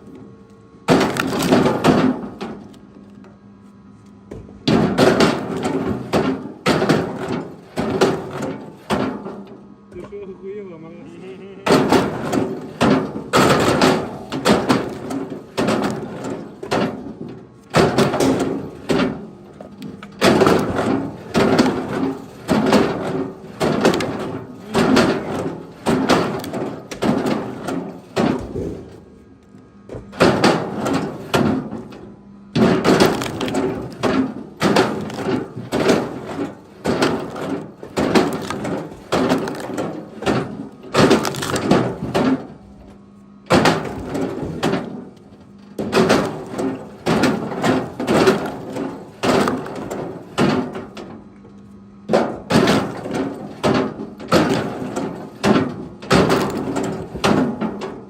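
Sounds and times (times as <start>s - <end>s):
firewood clattering onto a pile: 0.9s - 2.8s, 4.6s - 10.1s, 11.7s - 29.0s, 29.9s - 42.6s, 43.5s - 51.2s, 52.1s - 58.0s.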